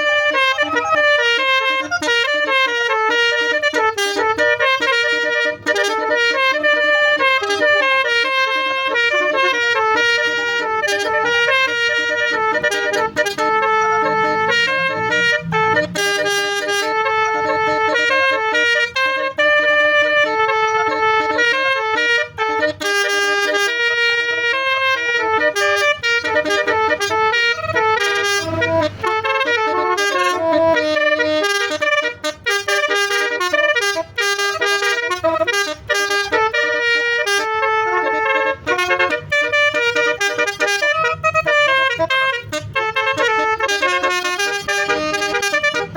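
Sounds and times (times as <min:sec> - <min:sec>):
multi-tone bus horn melody: 0:00.0 - 0:45.9.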